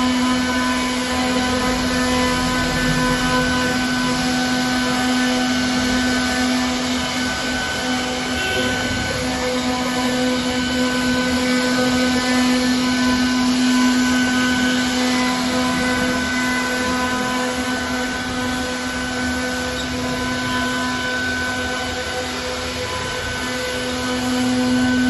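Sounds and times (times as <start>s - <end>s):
cnc router motor whine: 0.0s - 25.0s.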